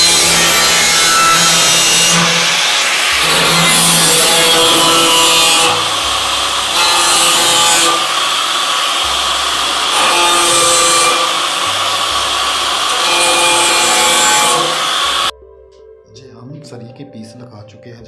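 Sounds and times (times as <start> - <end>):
angle grinder cutting metal: 0.0 - 15.3.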